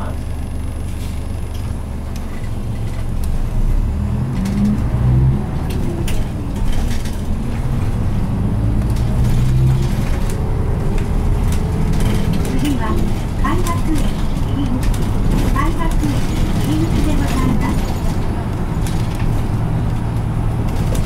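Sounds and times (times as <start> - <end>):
bus diesel engine accelerating: 0.0 - 21.0.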